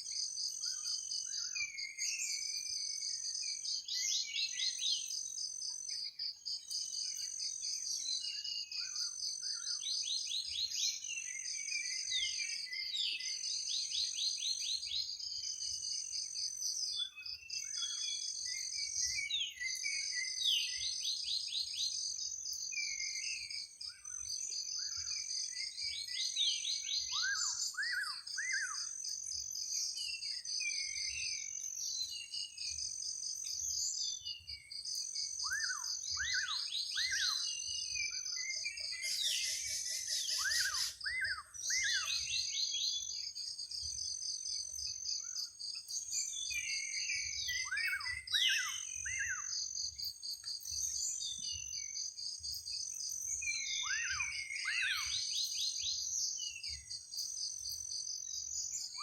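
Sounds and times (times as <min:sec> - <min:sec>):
birds chirping and calling: 0:00.2 - 0:59.0.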